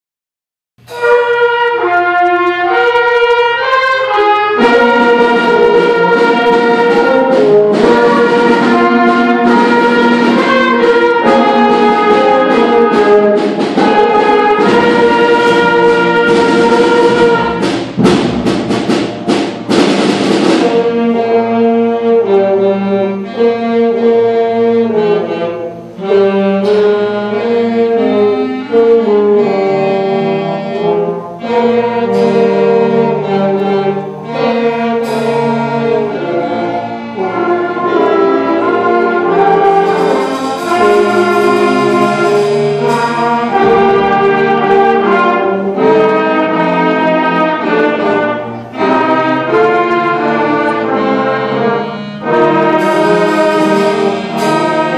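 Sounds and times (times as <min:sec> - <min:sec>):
percussion hits: 0:00.8 - 0:21.8, 0:25.7 - 0:29.2, 0:30.8 - 0:54.9
school concert band playing: 0:00.8 - 0:54.9.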